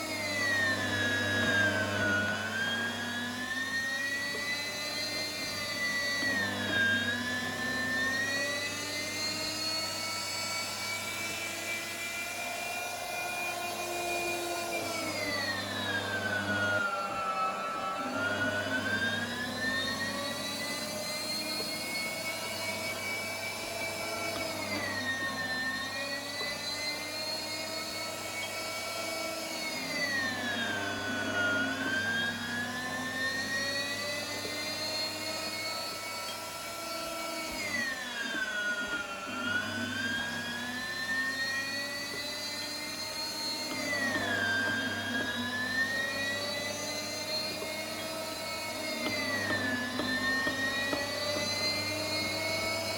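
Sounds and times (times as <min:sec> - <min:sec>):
meat grinder motor whining: 0:00.0 - 0:52.9.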